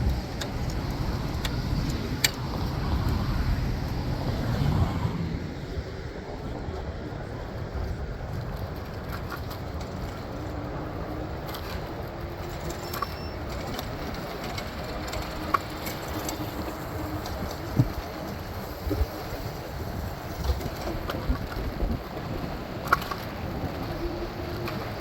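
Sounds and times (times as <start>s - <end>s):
street traffic hum: 0.0s - 25.0s.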